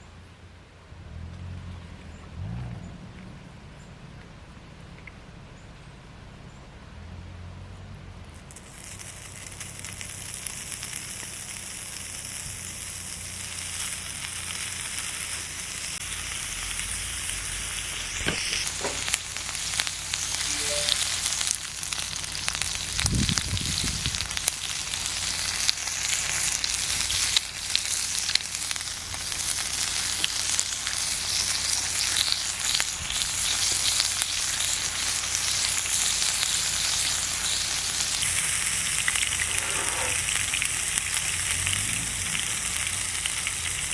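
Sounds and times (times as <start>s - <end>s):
crackling and spitting: 8.3s - 43.9s
food sizzling on a grill: 8.4s - 43.9s.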